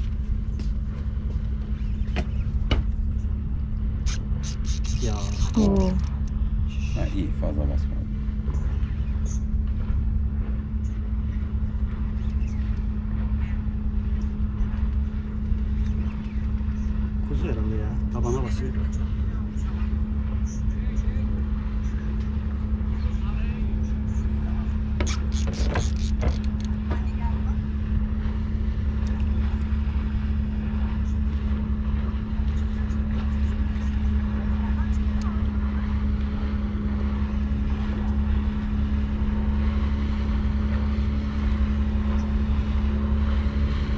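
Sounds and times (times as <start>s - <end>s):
boat engine droning: 0.0s - 43.9s.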